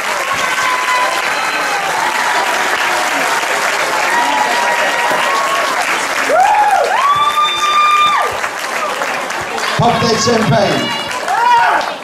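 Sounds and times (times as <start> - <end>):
audience cheering and whooping: 0.0 - 12.0
audience clapping: 0.0 - 12.0.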